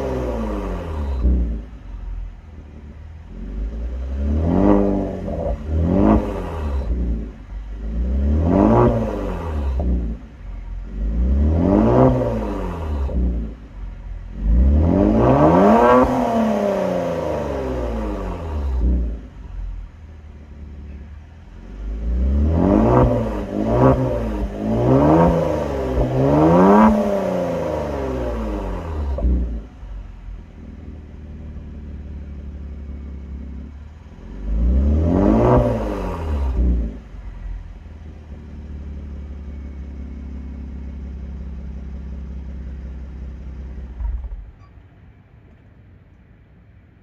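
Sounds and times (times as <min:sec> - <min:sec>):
car engine revving: 0:00.0 - 0:44.6.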